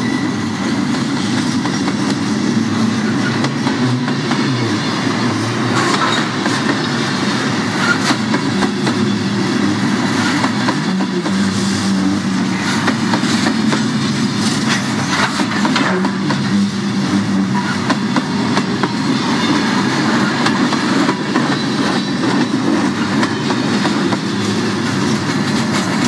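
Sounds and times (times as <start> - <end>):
steel wheels rumbling on rail: 0.0 - 26.0
train cars clicking and clanking: 0.0 - 26.0.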